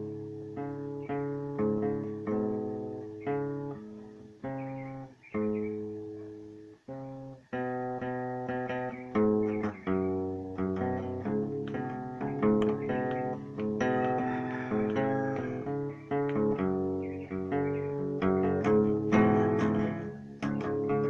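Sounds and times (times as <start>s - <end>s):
plucked guitar chords: 0.0s - 21.0s.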